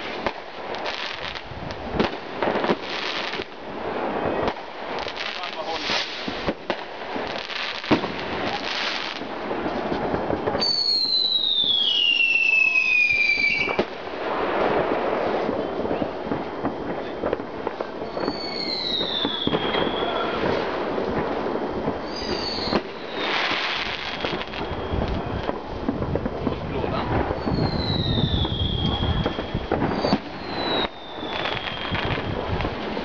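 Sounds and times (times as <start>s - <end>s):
fireworks crackling and bangs: 0.0s - 33.0s
fireworks whistles falling: 0.0s - 33.0s.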